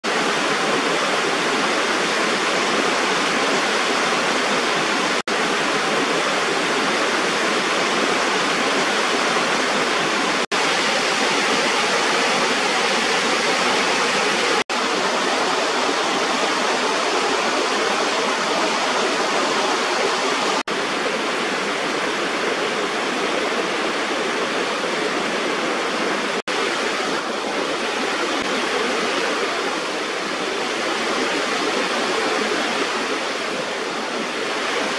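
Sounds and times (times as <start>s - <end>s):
water rushing over waterfall: 0.0s - 34.9s.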